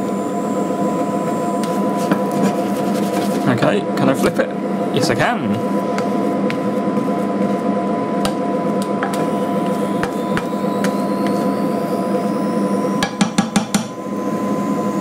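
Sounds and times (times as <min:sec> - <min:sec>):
faint high whine: 0:00.0 - 0:02.8, 0:03.5 - 0:15.0
induction hob hum and fan: 0:00.0 - 0:15.0.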